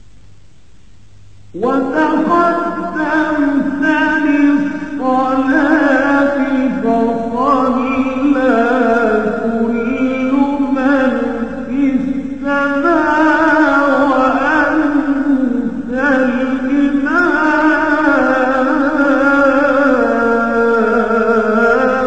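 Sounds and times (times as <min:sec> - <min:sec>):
man singing: 0:01.6 - 0:22.0.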